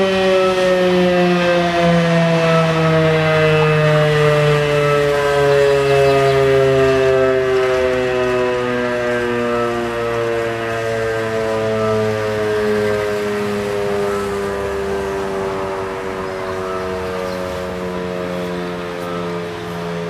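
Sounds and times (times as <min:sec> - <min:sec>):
air-raid siren wailing: 0:00.0 - 0:20.0.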